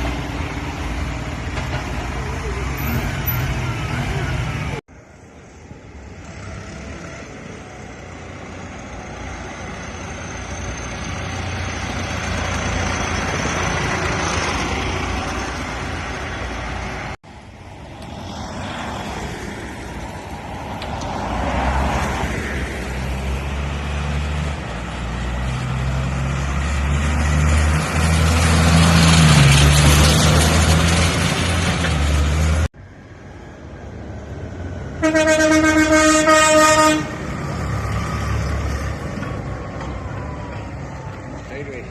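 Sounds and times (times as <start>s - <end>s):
tractor engine driving past: 0.0s - 35.0s.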